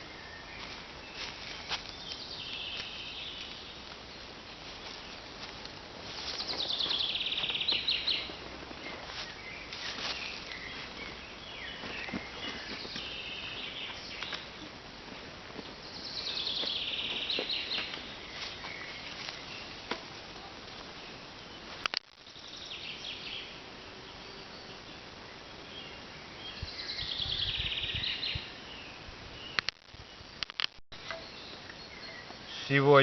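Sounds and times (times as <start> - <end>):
songbirds singing: 0.0 - 30.4, 31.0 - 33.0.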